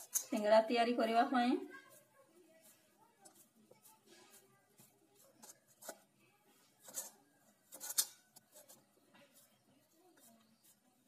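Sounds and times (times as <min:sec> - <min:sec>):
dough rubbing and scraping in bowl: 0:00.0 - 0:11.0.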